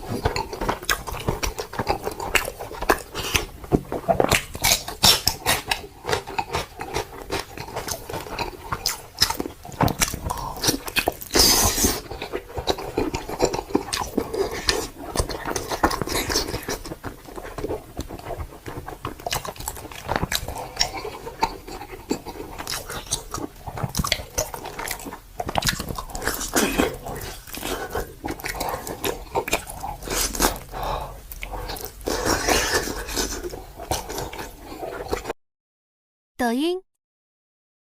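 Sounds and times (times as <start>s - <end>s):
chewing and biting food: 0.0s - 35.3s.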